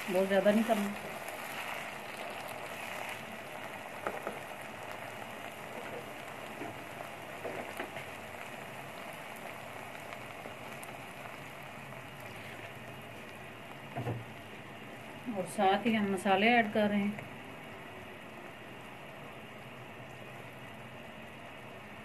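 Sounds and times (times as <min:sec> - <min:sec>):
sauce sizzling in a pan: 0:00.0 - 0:21.8.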